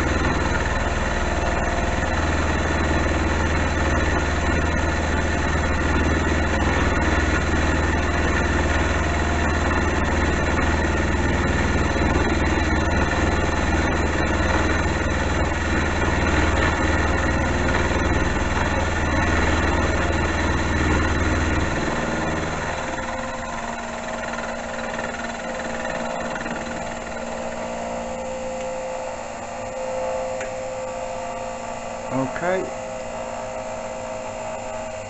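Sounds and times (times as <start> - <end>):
lathe cutting steel hum: 0.0 - 35.0
metal lathe running: 0.0 - 35.0.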